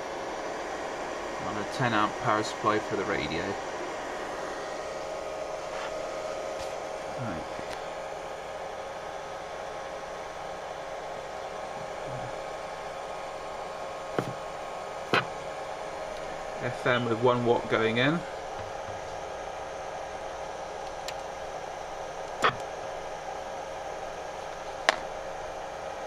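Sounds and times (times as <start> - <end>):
faint hum: 0.0 - 26.0
steady rushing hiss: 0.0 - 26.0.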